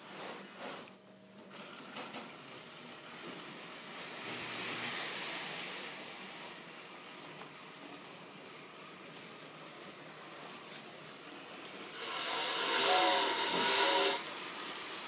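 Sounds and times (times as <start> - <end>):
model train running on track: 2.5 - 15.0.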